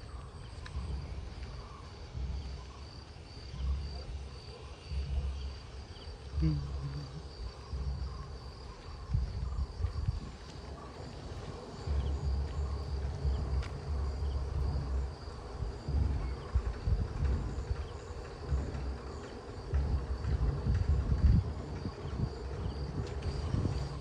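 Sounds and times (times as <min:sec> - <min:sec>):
insects trilling: 0:00.0 - 0:24.0
low rumbling on microphone: 0:00.0 - 0:24.0.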